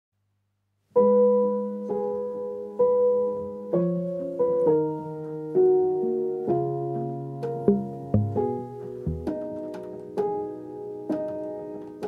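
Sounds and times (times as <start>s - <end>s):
slow piano chords: 1.0s - 12.0s.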